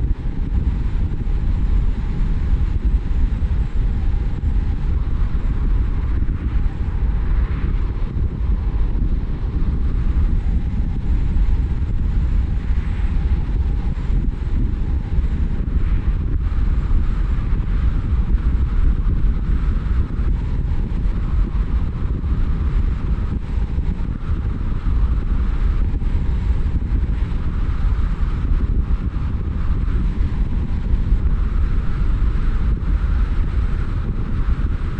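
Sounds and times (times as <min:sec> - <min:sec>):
car road and wind noise: 0:00.0 - 0:34.9.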